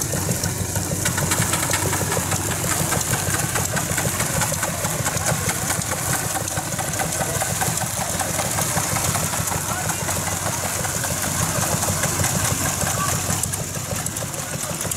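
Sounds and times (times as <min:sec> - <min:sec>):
engine idling with ticking: 0:00.0 - 0:14.9.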